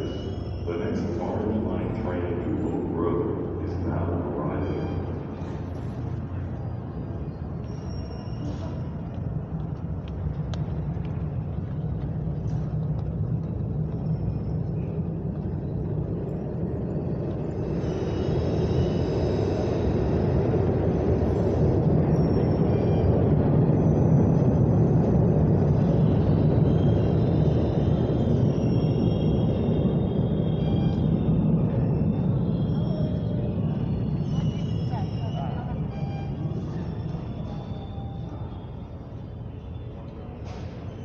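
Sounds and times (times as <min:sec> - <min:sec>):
faint high whines: 0:00.0 - 0:41.0
train rumbling in station: 0:00.0 - 0:41.0.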